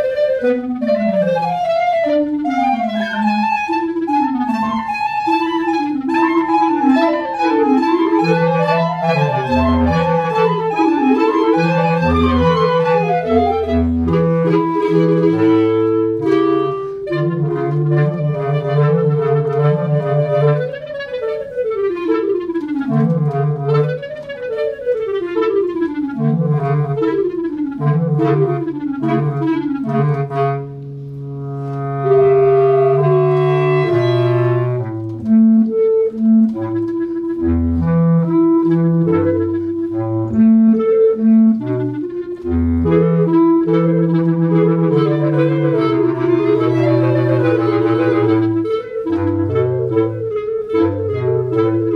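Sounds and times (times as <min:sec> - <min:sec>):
clarinet trio playing: 0:00.0 - 0:51.9.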